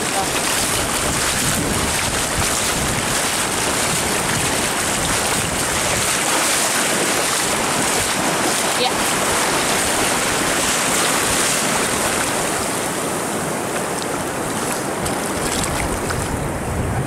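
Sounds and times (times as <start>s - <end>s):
wind buffeting microphone: 0.0s - 12.8s, 14.2s - 17.0s
breaking surf: 0.0s - 17.0s.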